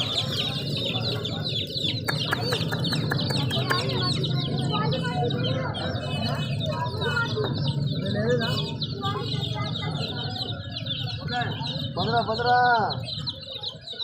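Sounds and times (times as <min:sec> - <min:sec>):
baby chicks peeping: 0:00.0 - 0:14.0.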